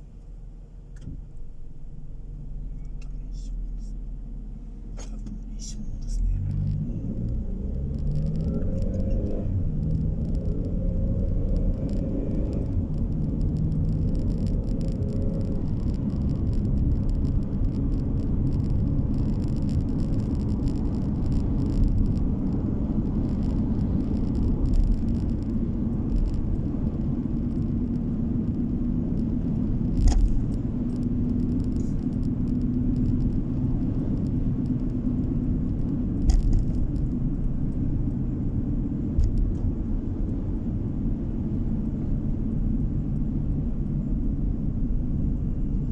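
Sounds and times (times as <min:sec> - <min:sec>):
car tyres and engine rumble: 0:00.0 - 0:45.9.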